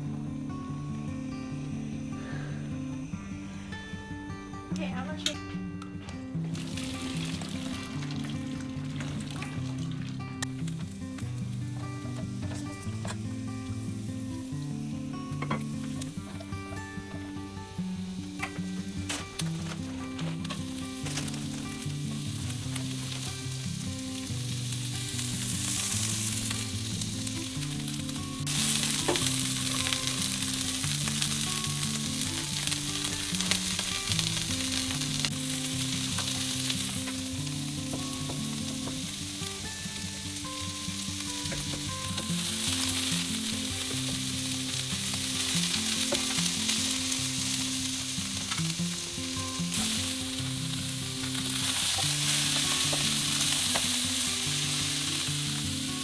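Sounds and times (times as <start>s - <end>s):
acoustic guitar music: 0.0s - 56.0s
vegetables sizzling in hot oil: 6.5s - 56.0s.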